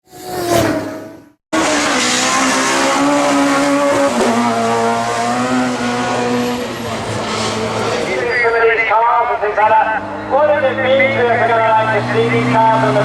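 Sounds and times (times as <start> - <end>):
rally car engine at high revs: 0.0 - 8.4, 10.0 - 13.0.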